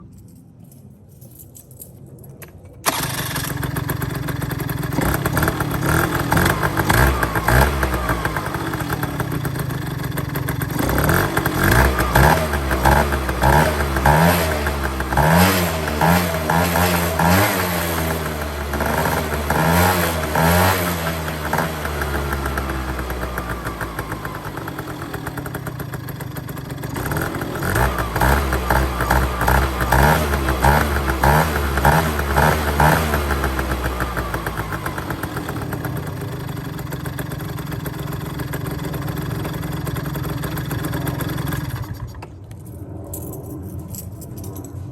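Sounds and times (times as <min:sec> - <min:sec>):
scooter engine idling and revving: 0:02.8 - 0:42.6.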